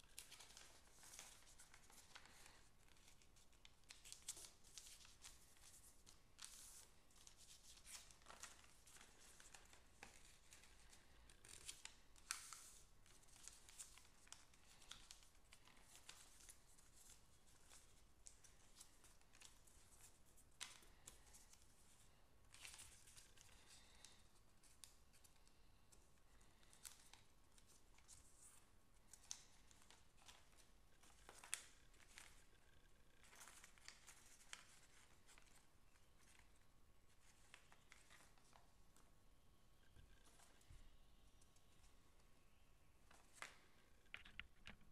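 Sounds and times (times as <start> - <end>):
paper rustling and crinkling: 0.0 - 39.1, 40.1 - 42.1, 43.0 - 44.9.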